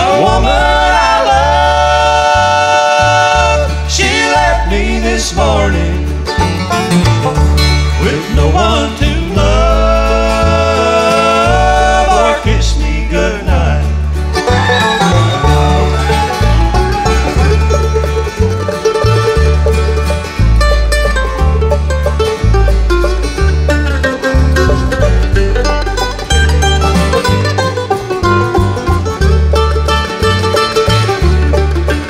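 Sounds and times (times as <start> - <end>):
acoustic guitars: 0.0 - 32.0
banjo: 0.0 - 32.0
mandolin: 0.0 - 32.0
upright bass line: 0.0 - 32.0.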